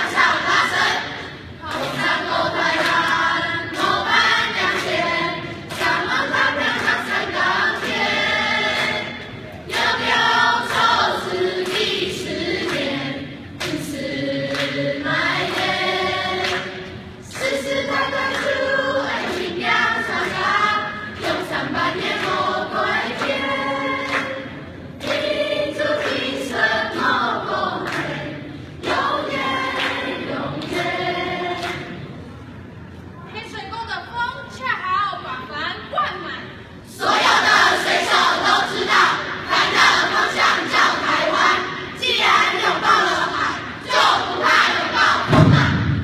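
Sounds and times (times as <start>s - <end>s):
students choir singing: 0.0s - 32.3s, 36.8s - 46.0s.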